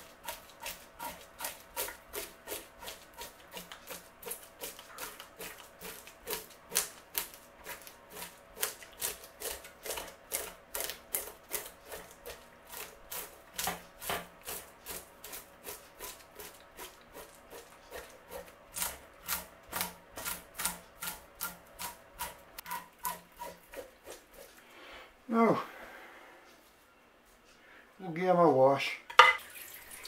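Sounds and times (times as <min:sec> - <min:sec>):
knife scraping fish scales: 0:00.1 - 0:24.6.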